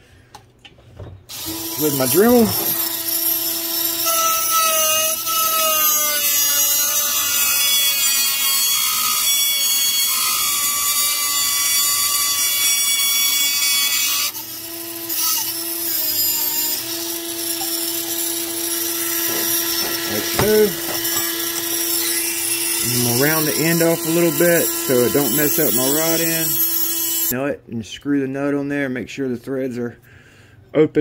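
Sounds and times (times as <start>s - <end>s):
cut-off wheel grinding steel: 1.3s - 27.3s
rotary tool whining: 1.3s - 27.3s.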